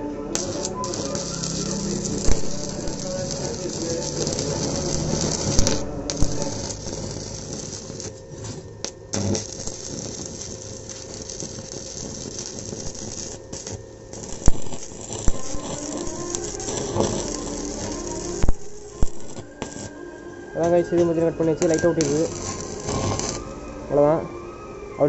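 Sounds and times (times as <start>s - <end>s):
welding arc crackling: 0.3s - 20.0s, 20.6s - 24.2s
sharp welding pops: 0.4s - 20.0s, 20.6s - 23.6s.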